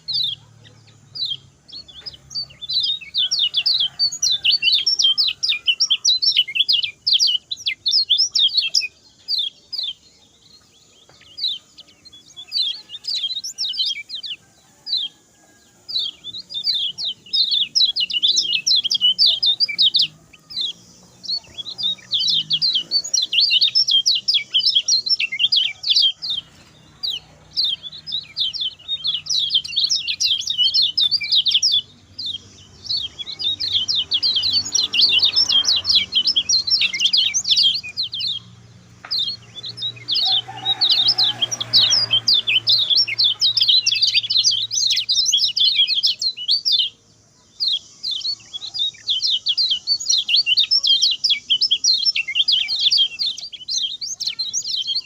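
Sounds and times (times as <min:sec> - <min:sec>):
bird singing rapid high chirps: 0:00.0 - 0:55.0.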